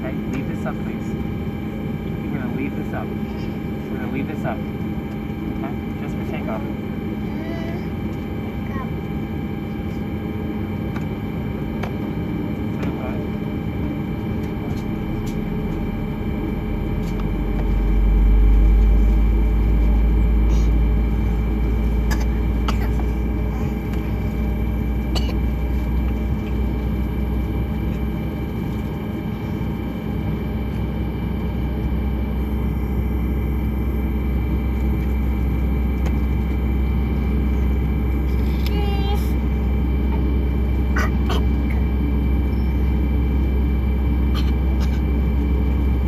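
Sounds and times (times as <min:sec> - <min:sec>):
airplane cabin rumble while taxiing: 0:00.0 - 0:46.0
jet engines humming: 0:00.0 - 0:46.0.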